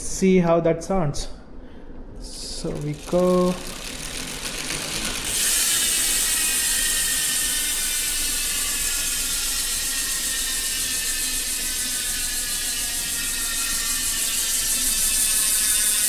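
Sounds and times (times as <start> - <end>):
bicycle freehub buzzing: 2.2 - 16.0.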